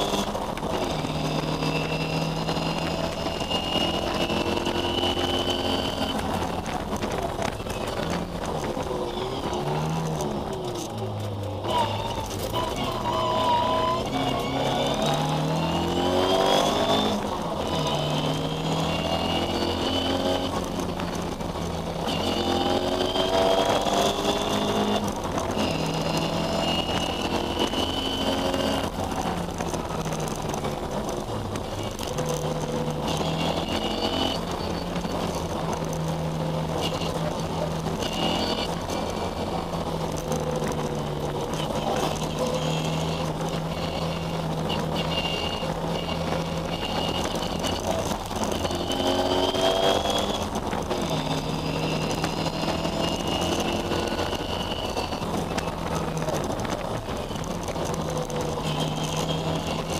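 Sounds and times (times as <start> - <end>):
car engine revving through gears: 0.0 - 59.9.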